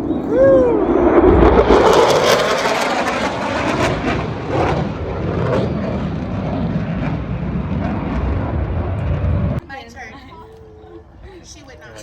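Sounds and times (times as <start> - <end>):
aircraft engine passing close: 0.0 - 9.6.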